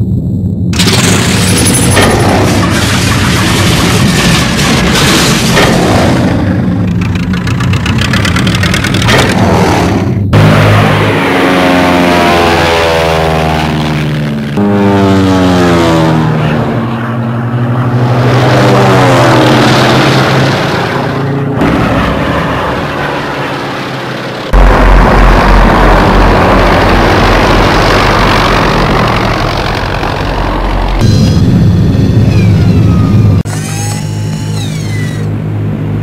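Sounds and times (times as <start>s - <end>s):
deep steady rumble: 0.0s - 36.0s
propeller aircraft flying past: 5.7s - 36.0s.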